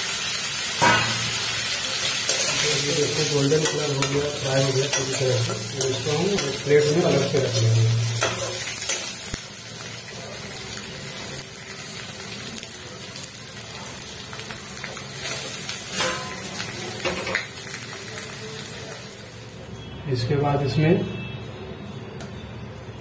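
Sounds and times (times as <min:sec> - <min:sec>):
cheese cubes sizzling in hot oil: 0:00.0 - 0:19.9.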